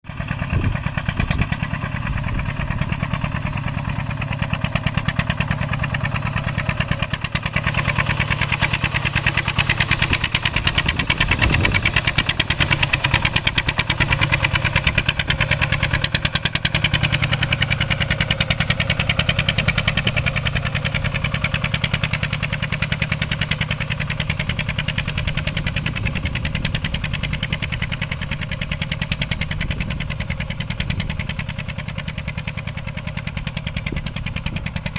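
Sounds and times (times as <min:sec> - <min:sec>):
tractor engine chugging: 0:00.0 - 0:34.9.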